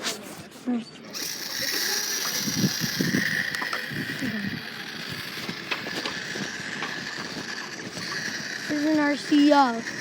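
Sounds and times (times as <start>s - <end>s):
toy truck motor whining: 1.0s - 10.0s.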